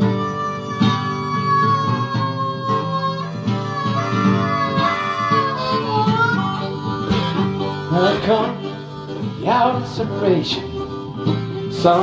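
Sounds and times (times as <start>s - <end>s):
harmonica melody with bent notes: 0.0s - 12.0s
strummed acoustic guitar: 0.0s - 12.0s.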